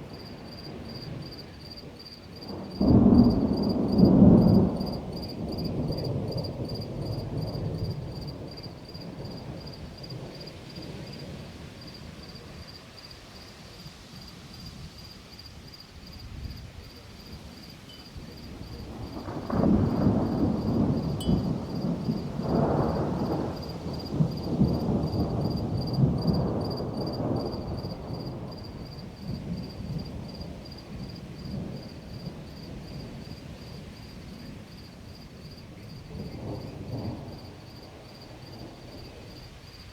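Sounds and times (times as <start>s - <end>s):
thunder rumbling: 0.0s - 12.7s, 17.2s - 39.9s
insects trilling: 0.1s - 11.2s, 11.8s - 39.9s.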